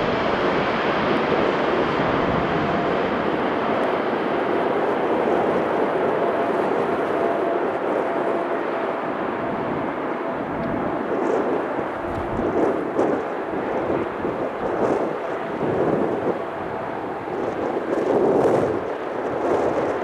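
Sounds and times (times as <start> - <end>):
jet engine noise with whine: 0.0 - 20.0.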